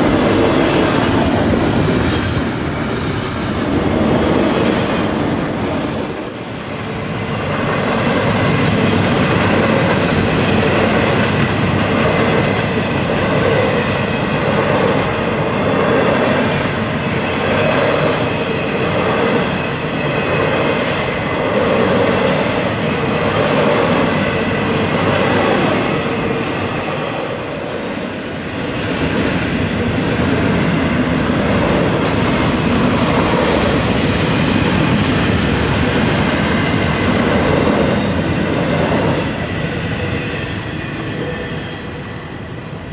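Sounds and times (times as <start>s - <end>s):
freight train cars rolling past: 0.0s - 42.9s.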